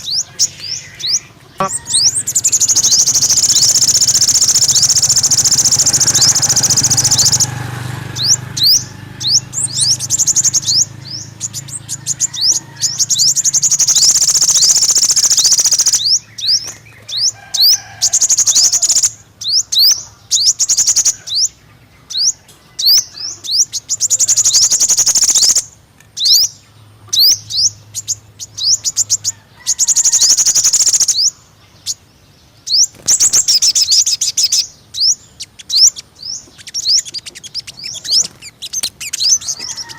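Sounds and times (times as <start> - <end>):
bird song trills: 0.0 - 39.9.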